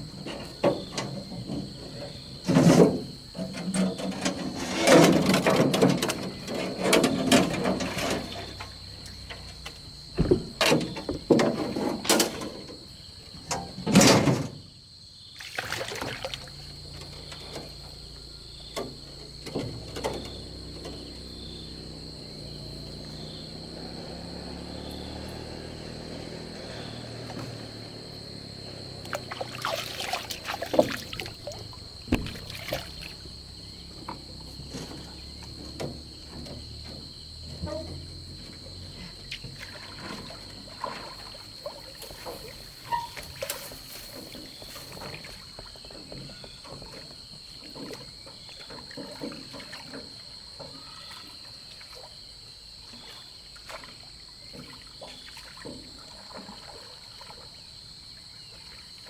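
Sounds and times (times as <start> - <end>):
water splashes and knocks: 0.0 - 59.0.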